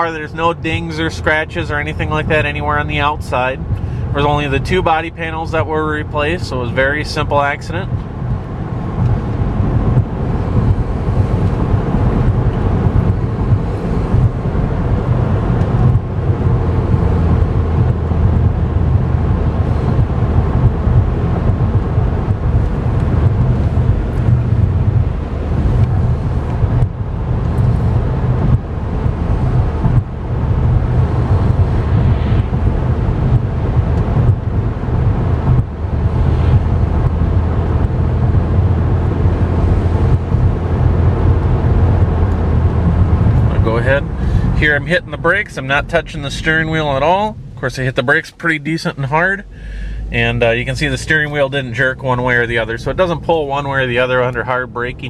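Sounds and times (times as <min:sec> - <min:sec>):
car cabin road and tyre rumble: 0:00.0 - 0:55.0.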